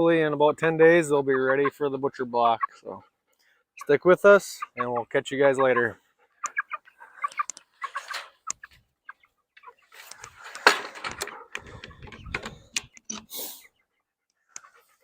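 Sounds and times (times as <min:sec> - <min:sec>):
chickens clucking and chirping: 0:00.6 - 0:15.0.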